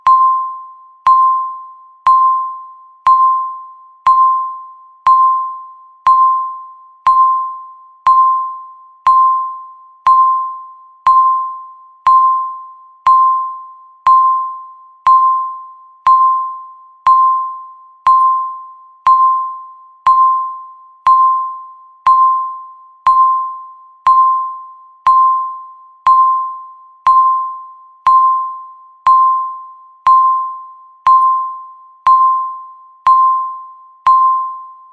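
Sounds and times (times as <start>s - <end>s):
timer beeping: 0.0s - 34.9s.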